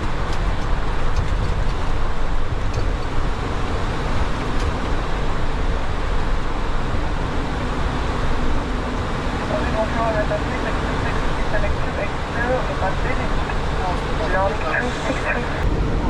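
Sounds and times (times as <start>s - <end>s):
cockpit airflow and engine roar: 0.0s - 16.0s.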